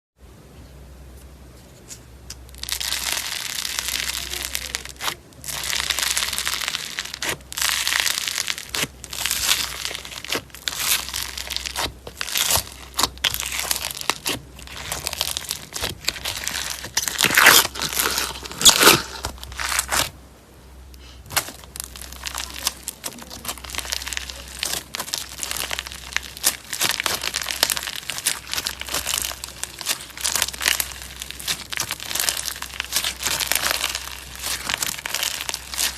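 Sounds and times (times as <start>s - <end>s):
slime crackling and popping: 2.3s - 20.2s, 20.9s - 35.9s.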